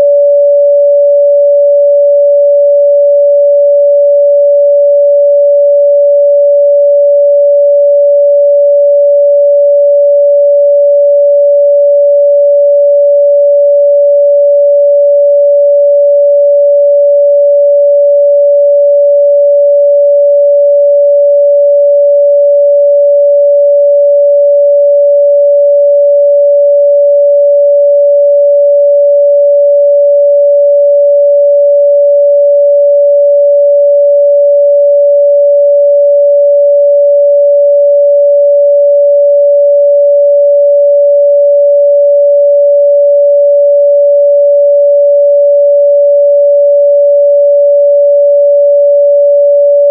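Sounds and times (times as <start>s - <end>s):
sine wave test tone: 0.0s - 49.9s.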